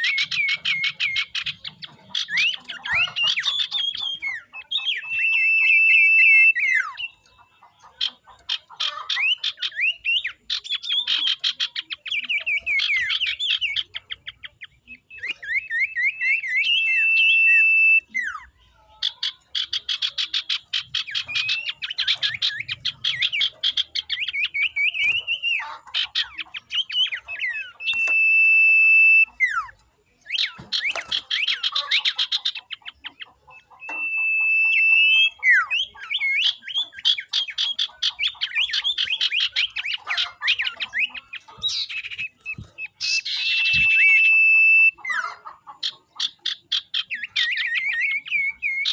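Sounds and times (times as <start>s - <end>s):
bird chattering and whistling: 0.0s - 48.9s.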